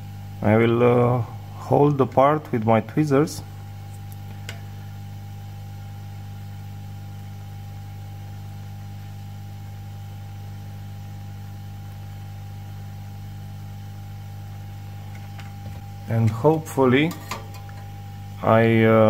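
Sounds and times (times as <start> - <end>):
low electrical hum: 0.0 - 19.0
thin constant whine: 0.0 - 19.0.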